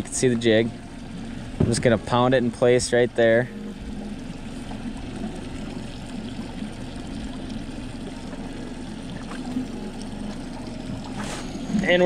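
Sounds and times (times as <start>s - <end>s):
steady low hum: 0.0s - 12.0s
water lapping against hull: 0.0s - 12.0s.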